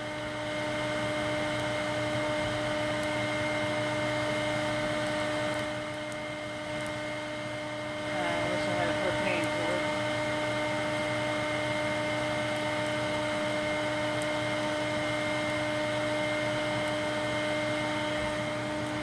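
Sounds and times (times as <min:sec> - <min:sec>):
electric air blower whining: 0:00.0 - 0:19.0.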